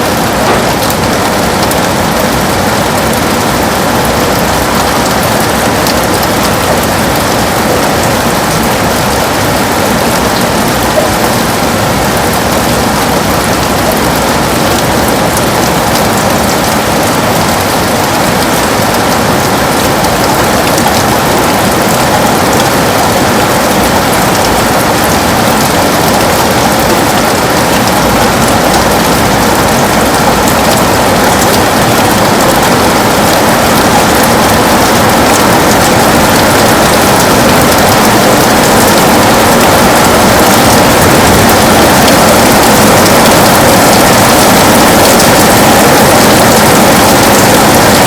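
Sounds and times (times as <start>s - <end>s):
heavy rain on a window: 0.0s - 48.0s.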